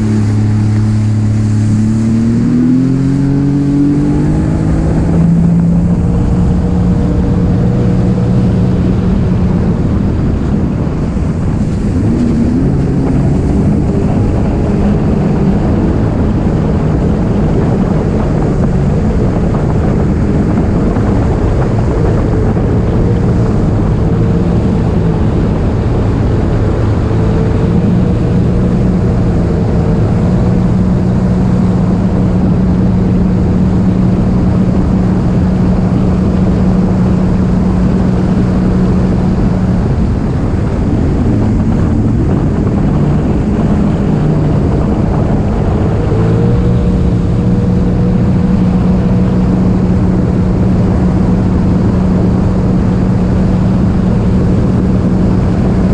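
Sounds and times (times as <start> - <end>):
jet ski engine running: 0.0 - 55.9.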